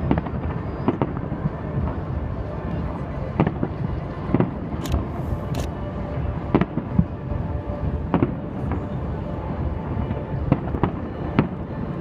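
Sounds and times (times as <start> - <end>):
fireworks rumble: 0.0 - 12.0.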